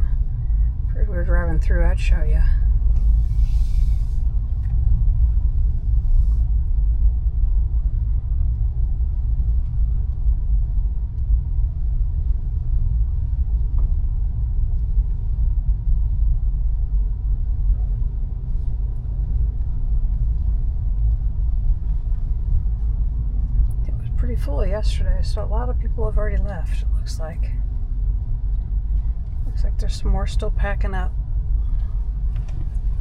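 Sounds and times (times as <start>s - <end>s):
vehicle road and engine rumble: 0.0s - 33.0s.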